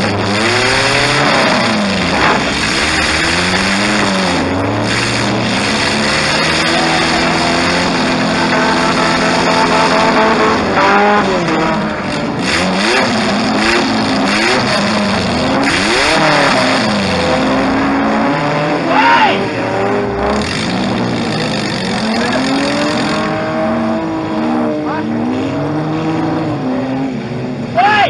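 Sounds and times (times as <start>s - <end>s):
car engine revving: 0.0s - 27.8s.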